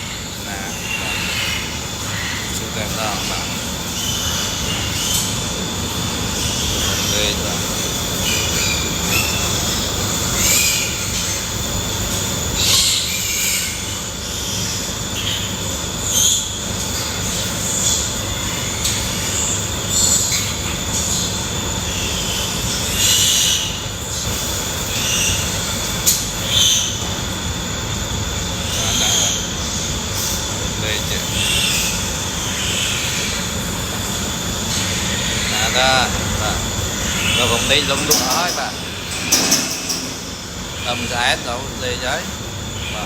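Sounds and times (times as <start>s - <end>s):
pigs squealing: 0.0s - 43.0s.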